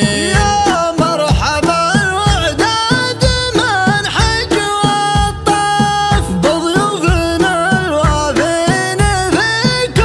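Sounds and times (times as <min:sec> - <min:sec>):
low drum beat: 0:00.0 - 0:10.0.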